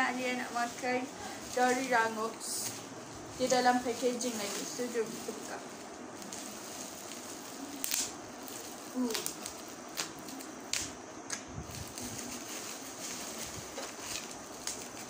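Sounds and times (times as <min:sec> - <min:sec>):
bubble wrap crackles: 0:00.0 - 0:11.0, 0:11.6 - 0:15.0
bubble wrap crinkling: 0:00.0 - 0:11.0, 0:11.6 - 0:15.0.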